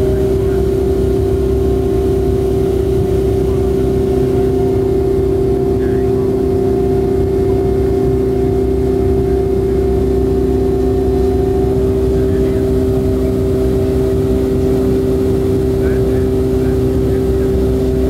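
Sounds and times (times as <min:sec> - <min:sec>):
airplane cabin engine drone: 0:00.0 - 0:18.0.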